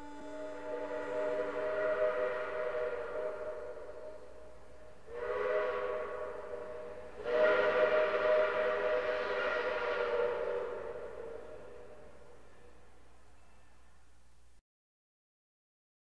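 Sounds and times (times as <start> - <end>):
steam locomotive whistle: 0.0 - 13.9.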